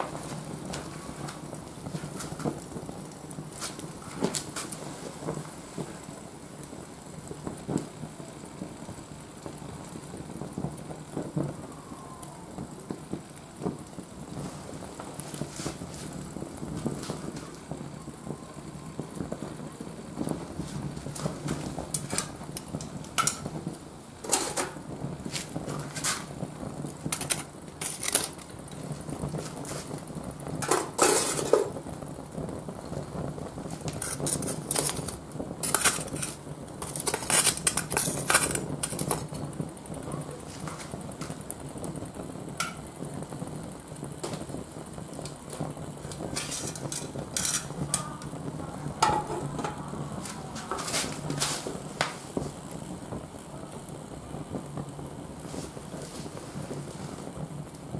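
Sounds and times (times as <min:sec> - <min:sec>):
charcoal popping and crackling: 0:00.0 - 0:57.9
flame rushing: 0:00.0 - 0:57.9.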